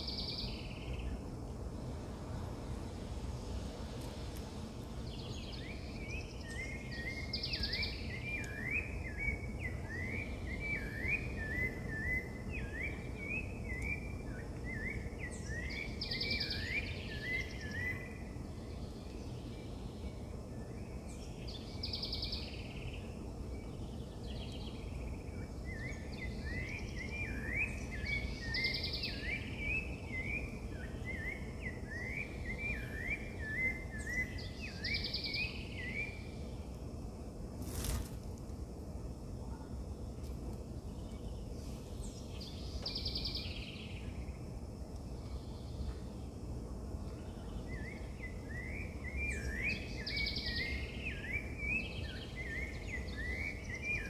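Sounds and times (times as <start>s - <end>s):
songbirds chirping: 0.0s - 54.0s
steady low background noise: 0.0s - 54.0s.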